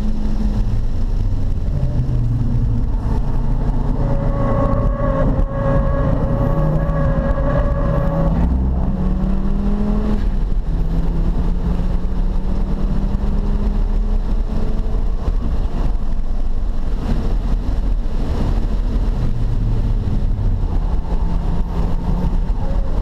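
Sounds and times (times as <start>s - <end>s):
car engine running: 0.0s - 23.0s
tyre and wind rumble: 0.0s - 23.0s.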